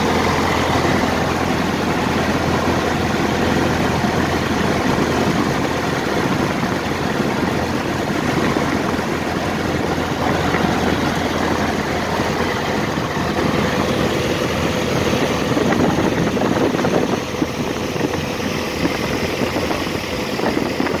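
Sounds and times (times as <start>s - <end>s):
airplane engine and propeller idling: 0.0s - 21.0s.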